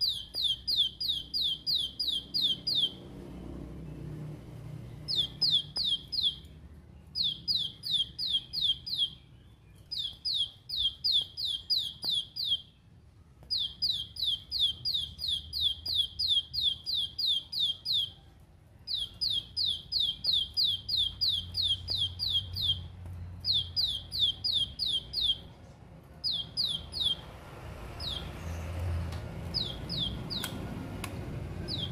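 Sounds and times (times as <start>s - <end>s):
bird singing rapid high notes: 0.0s - 3.2s, 4.8s - 25.5s, 26.2s - 27.3s, 27.9s - 28.8s, 29.4s - 30.6s, 31.6s - 31.9s.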